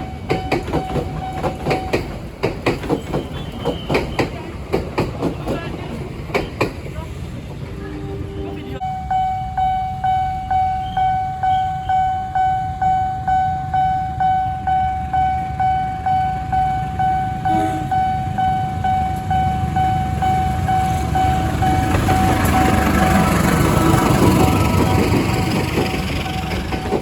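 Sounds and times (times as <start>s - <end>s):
level-crossing warning bell: 0.0s - 4.4s, 8.7s - 27.0s
approaching train: 0.0s - 27.0s.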